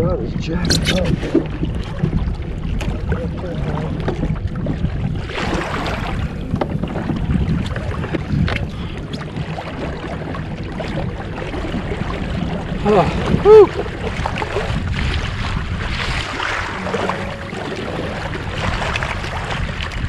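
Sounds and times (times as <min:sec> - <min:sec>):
rush of water: 0:00.0 - 0:20.0
waves lapping against kayak hull: 0:00.0 - 0:20.0
wind buffeting microphone: 0:00.0 - 0:20.0.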